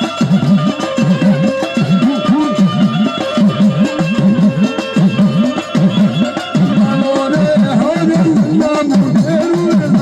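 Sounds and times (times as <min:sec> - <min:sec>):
drum swooping in pitch: 0:00.0 - 0:10.0
held instrumental tones: 0:00.0 - 0:10.0.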